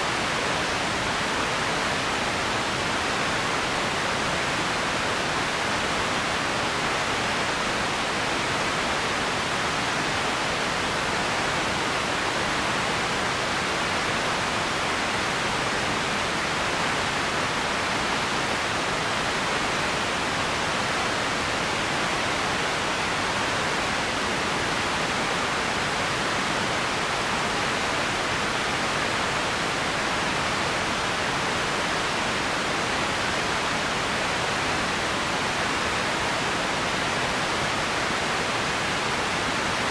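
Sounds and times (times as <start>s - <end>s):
steady room tone hiss: 0.0s - 39.9s.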